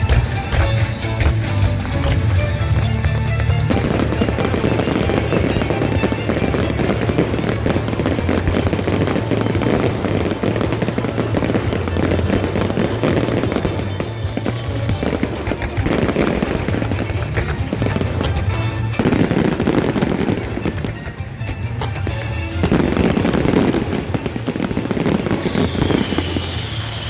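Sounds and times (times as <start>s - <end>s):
fireworks crackling and popping: 0.0s - 27.0s
music playing: 0.0s - 27.0s.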